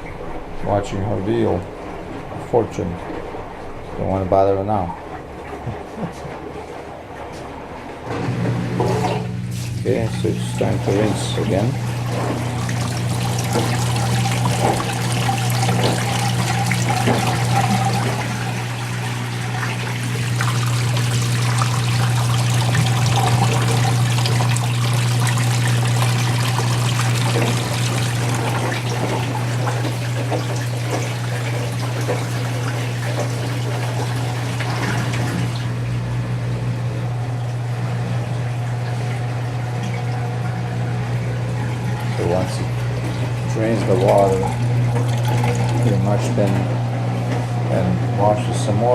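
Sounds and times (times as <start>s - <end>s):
washing machine humming: 0.0s - 48.9s
water running in washing machine: 0.0s - 48.9s.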